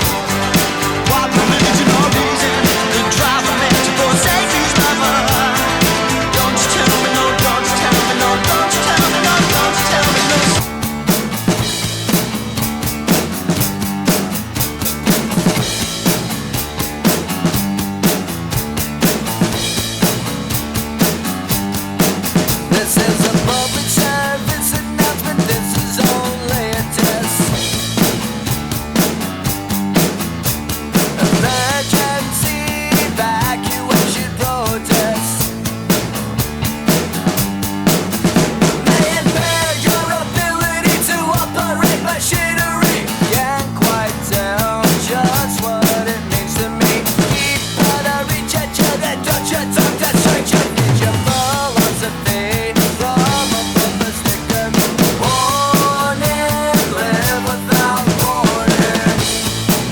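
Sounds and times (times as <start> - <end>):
electronic drum kit beat: 0.0 - 59.9
pitched lead bending: 0.0 - 59.9
rock music: 0.0 - 59.9.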